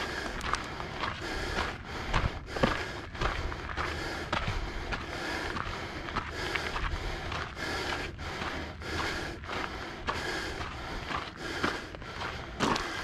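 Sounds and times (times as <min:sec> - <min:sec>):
rhythmic footsteps: 0:00.0 - 0:13.0
steady low rumble: 0:00.0 - 0:13.0.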